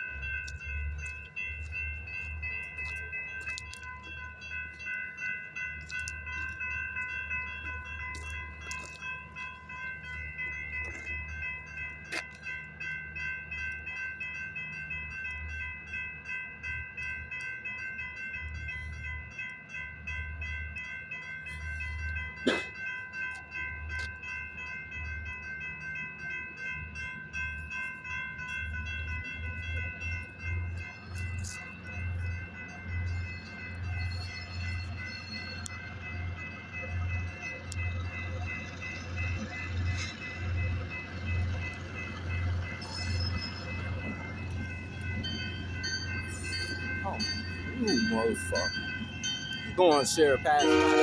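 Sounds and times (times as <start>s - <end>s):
crossing warning bell ringing: 0.0s - 51.0s.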